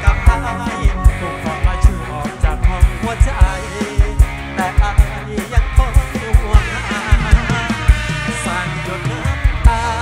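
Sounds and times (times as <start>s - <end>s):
electric guitar: 0.0s - 10.0s
heavy kick drum beat: 0.0s - 10.0s
man singing: 0.0s - 10.0s.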